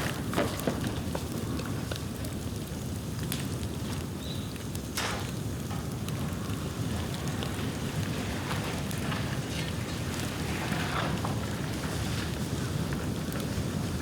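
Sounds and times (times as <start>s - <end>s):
bonfire low rumble: 0.0s - 14.0s
fire crackles and sharp pops: 0.0s - 14.0s.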